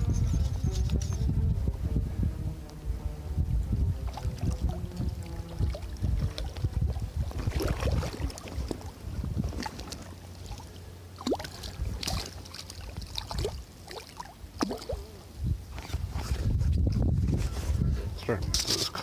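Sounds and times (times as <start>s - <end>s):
wind buffeting microphone: 0.0s - 10.6s, 11.3s - 13.6s, 14.6s - 19.0s.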